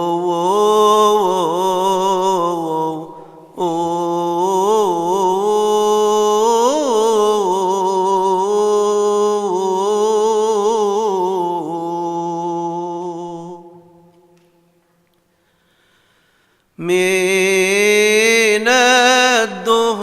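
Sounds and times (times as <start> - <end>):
man chanting a hymn: 0.0 - 14.2, 16.8 - 20.0.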